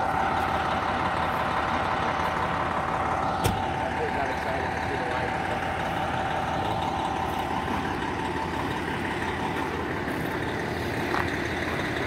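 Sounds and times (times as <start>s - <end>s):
fire truck engine idling: 0.0s - 12.0s.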